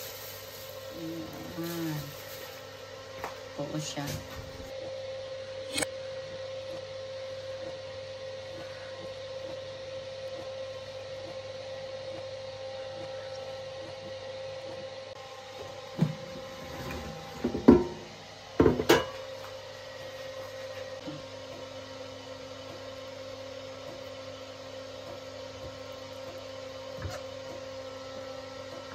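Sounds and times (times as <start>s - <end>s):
steady electrical hum: 0.0s - 28.9s.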